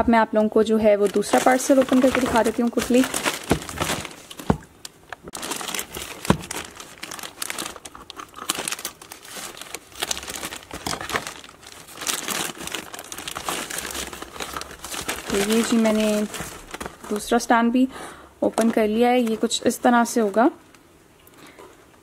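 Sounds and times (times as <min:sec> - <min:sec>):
plastic bag crinkling: 0:00.8 - 0:17.5, 0:18.4 - 0:20.4.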